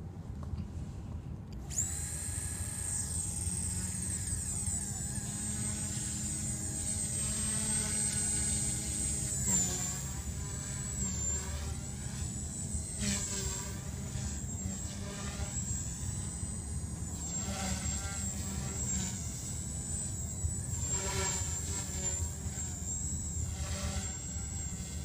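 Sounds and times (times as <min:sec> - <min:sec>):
rc helicopter motor whine: 0:01.5 - 0:25.0.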